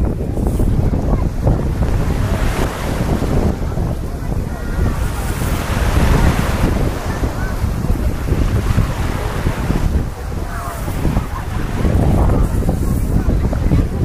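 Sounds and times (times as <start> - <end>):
waves washing onto shore: 0.0 - 14.0
wind buffeting microphone: 0.0 - 14.0.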